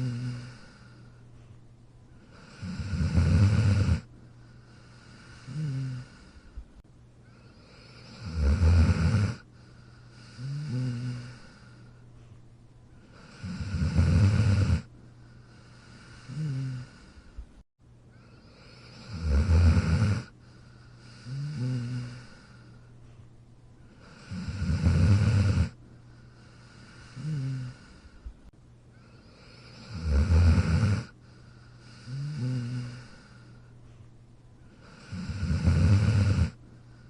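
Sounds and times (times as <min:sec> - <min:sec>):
dog snoring: 0:00.0 - 0:01.5, 0:02.2 - 0:06.6, 0:07.2 - 0:12.4, 0:13.0 - 0:17.4, 0:18.2 - 0:23.2, 0:23.8 - 0:28.3, 0:29.0 - 0:34.0, 0:34.6 - 0:37.0.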